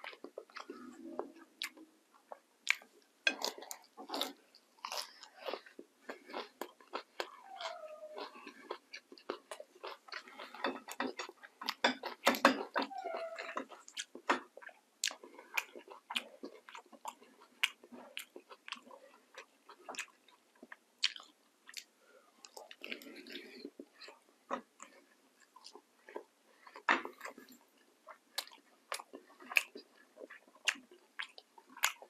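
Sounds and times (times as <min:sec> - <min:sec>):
wet chewing and smacking: 0:00.0 - 0:32.0.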